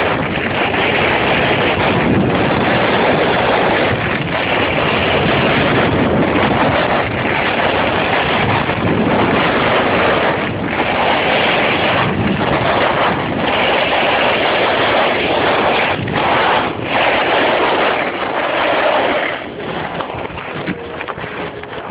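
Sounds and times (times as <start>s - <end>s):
wind rushing over microphone: 0.0s - 21.9s
skis scraping across snow: 0.5s - 21.9s.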